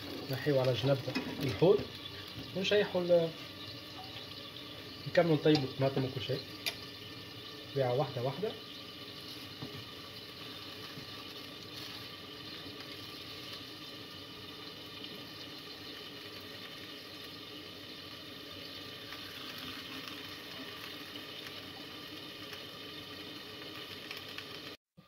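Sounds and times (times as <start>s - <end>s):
liquid simmering and bubbling in pans: 0.0s - 25.0s.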